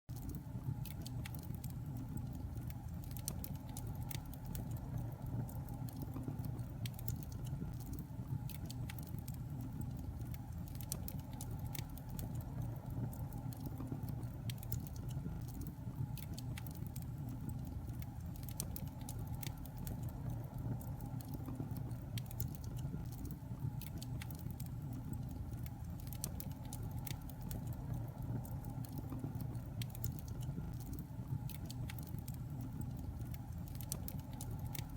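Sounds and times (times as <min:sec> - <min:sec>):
fire crackles and pops: 0:00.1 - 0:34.9
low rumble of flames: 0:00.1 - 0:34.9.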